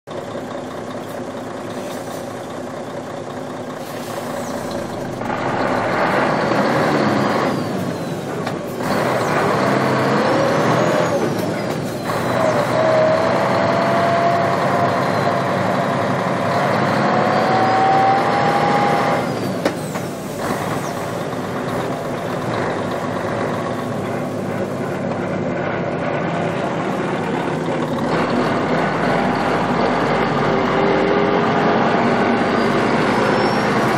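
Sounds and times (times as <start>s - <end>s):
truck engine accelerating: 0.1s - 33.9s.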